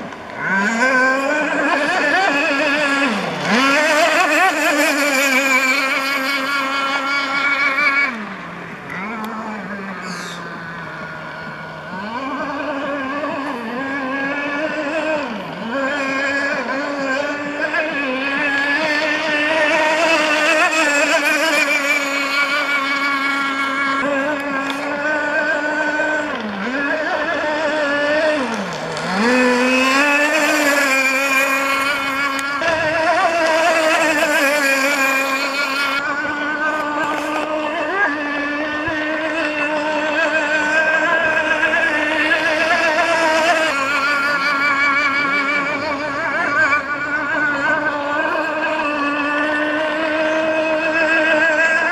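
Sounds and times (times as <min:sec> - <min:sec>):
model powerboat engine revving: 0:00.0 - 0:51.9.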